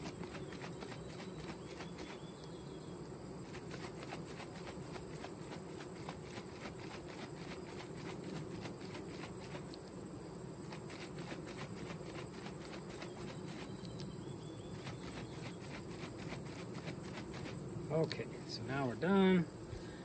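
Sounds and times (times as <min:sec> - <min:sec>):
honey bees humming: 0:00.0 - 0:20.0.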